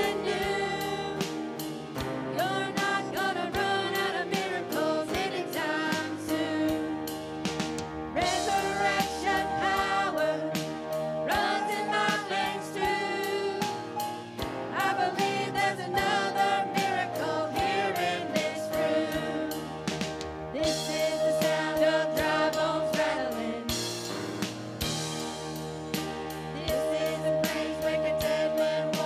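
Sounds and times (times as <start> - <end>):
people singing into microphones: 0.0 - 24.2, 25.9 - 29.0
steady drum beat: 0.0 - 29.0.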